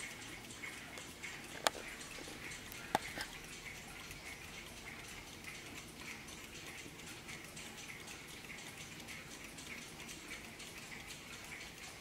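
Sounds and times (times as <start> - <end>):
mantel clock ticking: 0.0 - 12.0.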